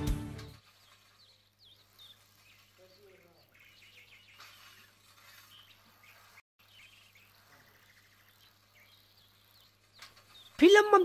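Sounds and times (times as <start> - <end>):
faint bird chirps: 0.7 - 11.0.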